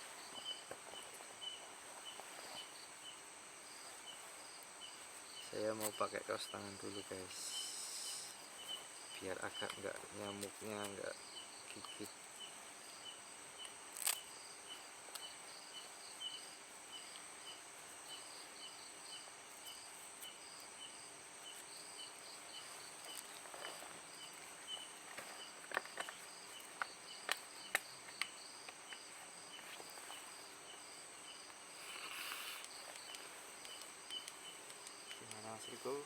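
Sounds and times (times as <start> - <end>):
continuous high buzz: 0.0 - 36.0
insects chirping: 0.0 - 36.0.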